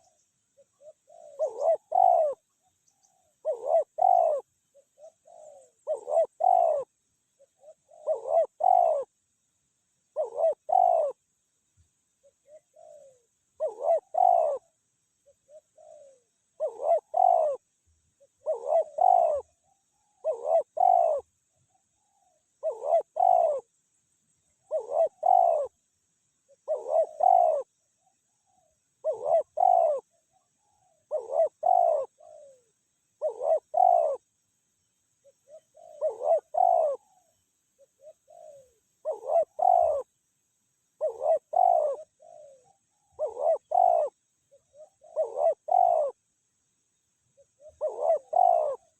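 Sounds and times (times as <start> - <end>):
dove cooing: 0.0 - 9.4, 10.1 - 11.2, 12.2 - 23.8, 24.4 - 25.9, 26.5 - 34.3, 35.2 - 40.2, 40.9 - 46.3, 47.3 - 48.9.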